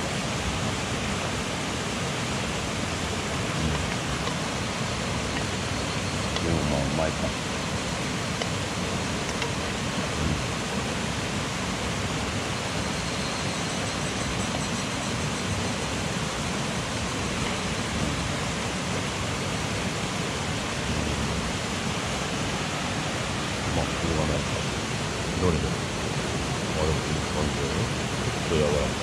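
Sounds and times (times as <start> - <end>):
mountain stream rushing: 0.0 - 29.0.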